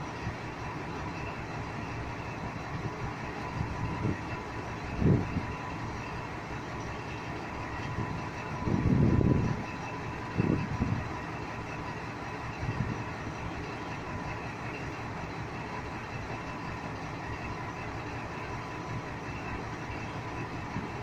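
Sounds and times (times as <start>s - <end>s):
train rolling past rumbling: 0.0s - 21.0s.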